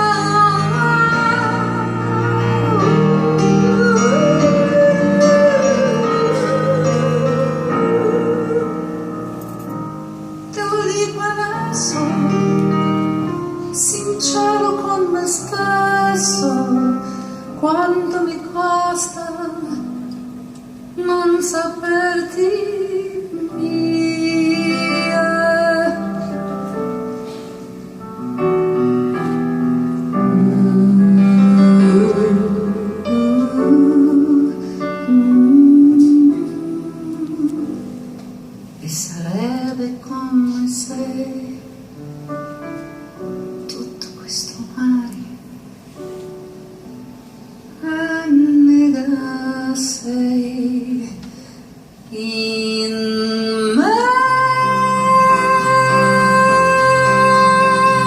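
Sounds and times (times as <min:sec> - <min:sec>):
woman singing a ballad: 0:00.0 - 0:27.8, 0:30.0 - 0:42.0, 0:43.5 - 0:45.7, 0:47.7 - 0:58.0
piano playing slow chords: 0:00.0 - 0:58.0.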